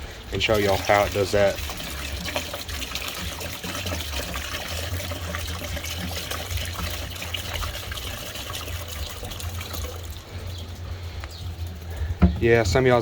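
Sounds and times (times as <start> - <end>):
liquid pouring and splashing: 0.0 - 10.9.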